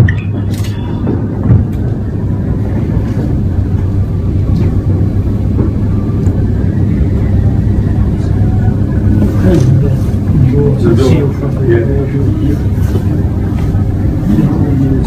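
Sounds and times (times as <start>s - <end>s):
mechanical rumble with hum: 0.0s - 15.0s.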